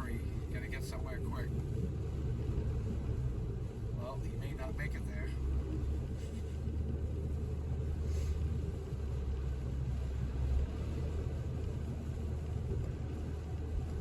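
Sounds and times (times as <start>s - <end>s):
road and engine rumble in car: 0.0s - 14.0s.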